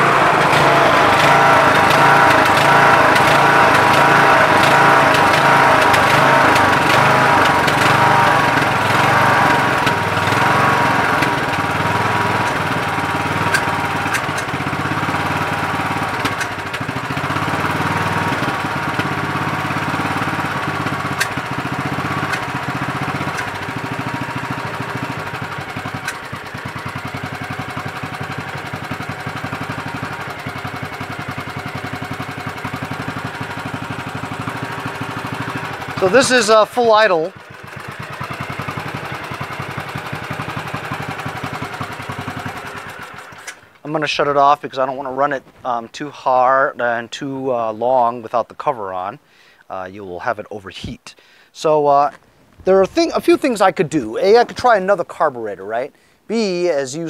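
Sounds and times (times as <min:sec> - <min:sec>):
lawn tractor engine idling: 0:00.0 - 0:46.9, 0:52.7 - 0:57.0.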